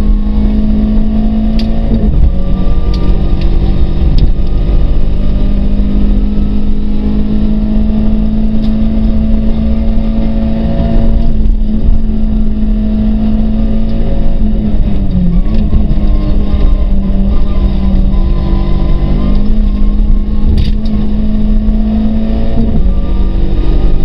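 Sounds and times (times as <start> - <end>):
car engine at high revs: 0.0 - 24.0
road and tyre noise: 0.0 - 24.0.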